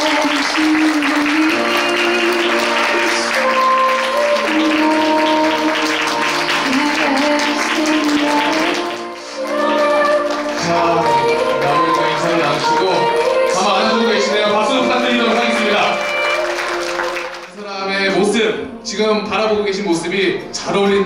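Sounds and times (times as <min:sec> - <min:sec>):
applause: 0:00.0 - 0:17.6
instrumental processional music: 0:00.0 - 0:19.2.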